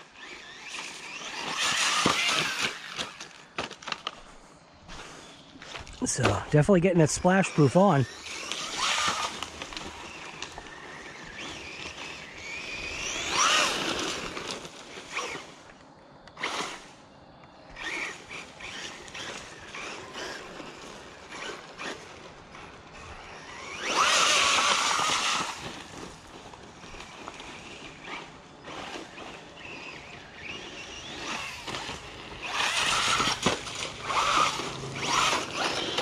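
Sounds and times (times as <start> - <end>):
rc car motor whine: 0.0 - 36.0
tyres on dirt: 0.0 - 36.0.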